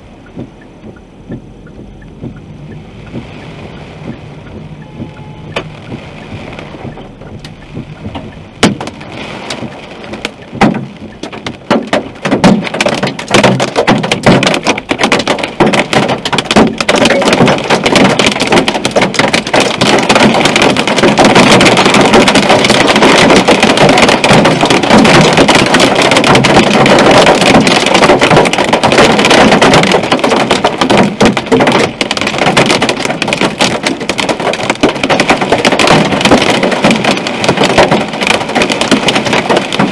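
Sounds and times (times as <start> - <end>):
hail hitting car roof: 0.0 - 39.9.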